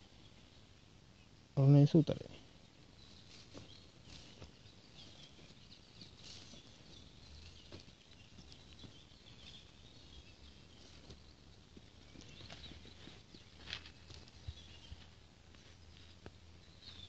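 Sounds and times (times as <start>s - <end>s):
distant bird calls: 0.0s - 17.0s
footsteps through dry grass: 2.4s - 17.0s.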